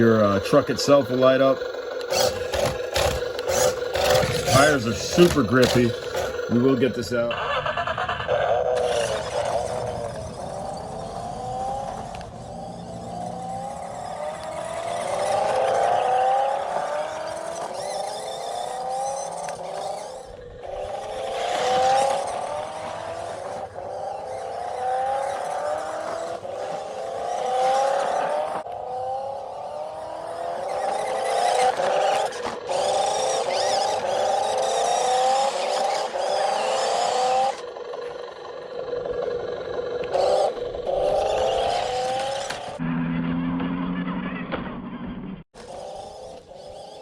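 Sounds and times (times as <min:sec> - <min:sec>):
toy truck motor whine: 0:00.0 - 0:44.4, 0:45.6 - 0:47.0.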